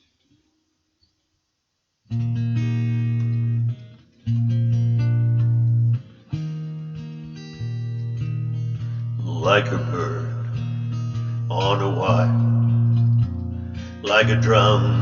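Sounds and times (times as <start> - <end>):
guitar chords ringing: 2.1 - 15.0.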